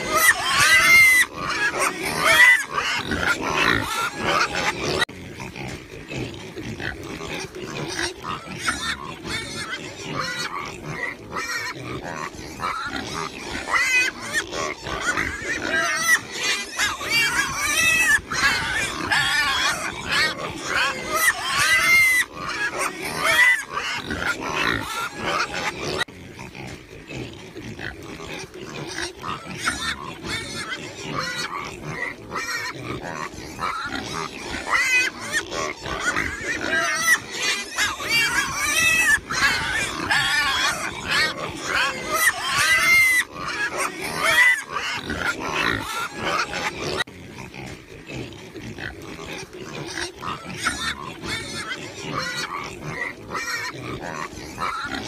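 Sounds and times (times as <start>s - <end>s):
piglets squealing: 0.0s - 55.0s.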